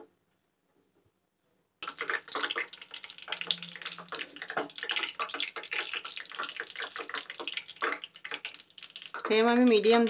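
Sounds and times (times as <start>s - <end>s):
peanuts sizzling in hot oil: 1.8s - 10.0s.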